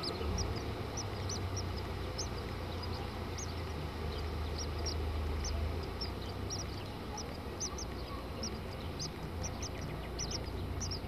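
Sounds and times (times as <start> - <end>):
low steady rumble: 0.0 - 11.0
nestlings cheeping: 0.0 - 11.0.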